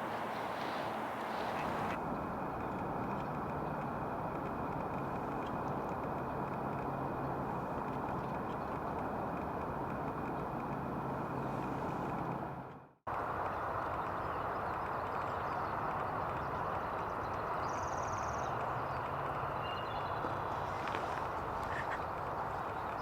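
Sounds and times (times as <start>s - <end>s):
outdoor rumble and hiss: 0.0s - 23.0s.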